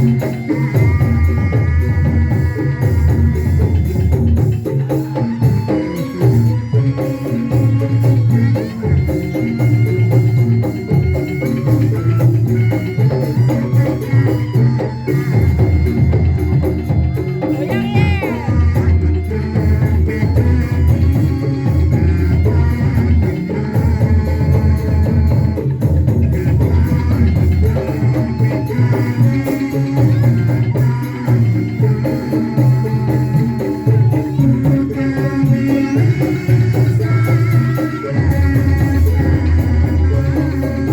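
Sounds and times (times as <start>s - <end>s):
drums: 0.0s - 40.9s
hand percussion: 0.0s - 40.9s
live band music: 0.0s - 40.9s.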